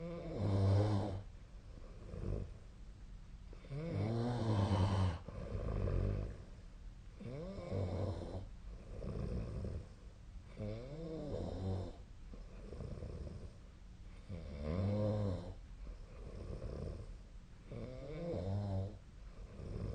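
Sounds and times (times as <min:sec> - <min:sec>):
person snoring: 0:00.0 - 0:01.2, 0:03.6 - 0:06.4, 0:07.2 - 0:13.6, 0:14.2 - 0:19.9.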